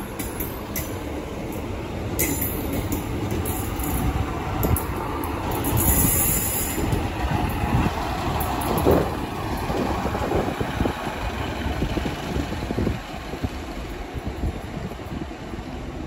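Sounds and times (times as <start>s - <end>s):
diesel train engines rumbling: 0.0s - 16.0s
loud train clatter: 0.0s - 16.0s
train wheels on rails: 0.0s - 16.0s.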